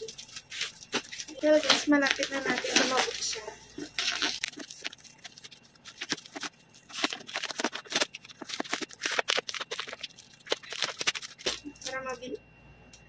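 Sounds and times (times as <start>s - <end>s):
packing tape tearing off box: 0.0s - 11.7s.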